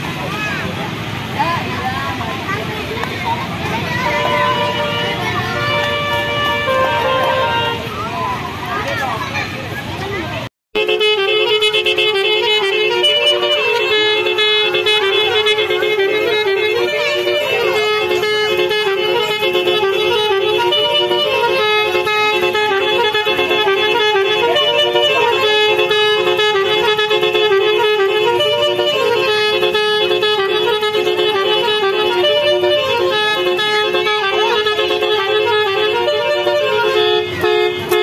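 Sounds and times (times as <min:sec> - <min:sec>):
musical vehicle horn melody: 0:03.8 - 0:08.1, 0:10.8 - 0:38.0.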